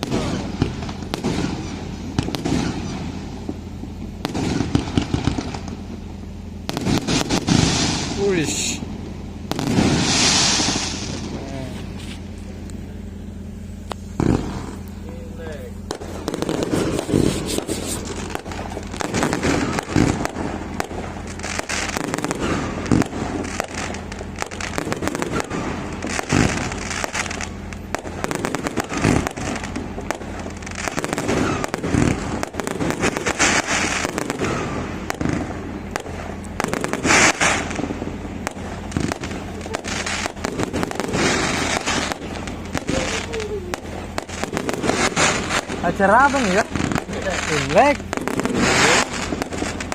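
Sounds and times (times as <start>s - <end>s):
firecrackers crackling and popping: 0.0s - 49.9s
firework booms: 0.0s - 49.9s.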